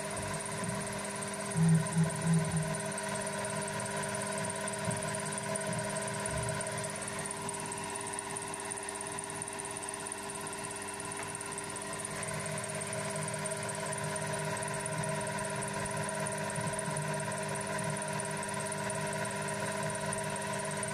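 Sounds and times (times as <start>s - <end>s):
milling machine motor humming: 0.0s - 20.9s.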